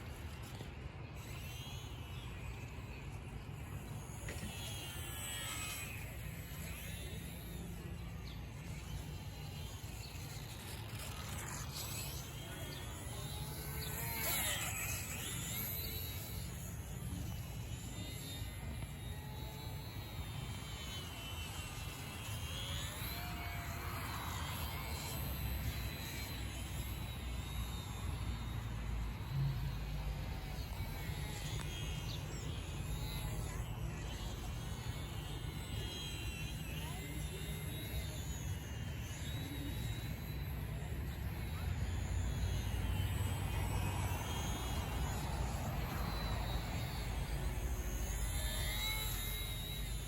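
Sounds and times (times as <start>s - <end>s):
electric model aircraft motor whining: 0.0s - 50.0s.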